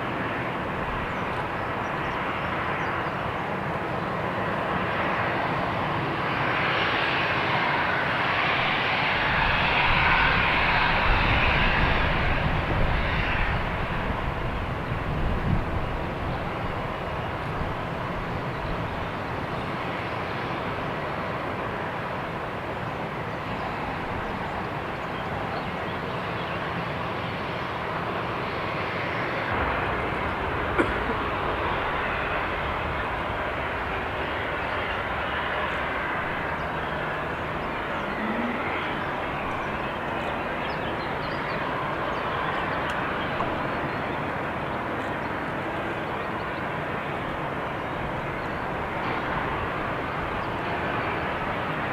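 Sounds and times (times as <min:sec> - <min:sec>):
jet airliner engine rushing: 0:00.0 - 0:51.9.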